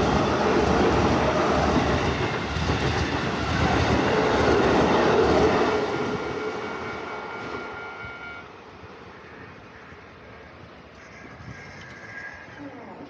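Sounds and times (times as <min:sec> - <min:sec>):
train wheel and running noise: 0:00.0 - 0:11.1.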